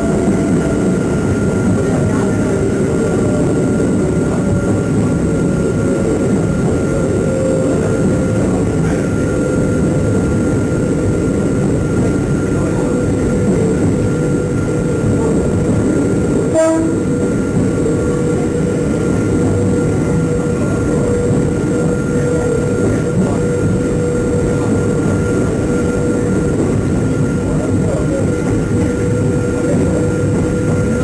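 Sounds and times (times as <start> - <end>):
electric train rumbling: 0.0 - 31.0
train whine: 0.0 - 31.0.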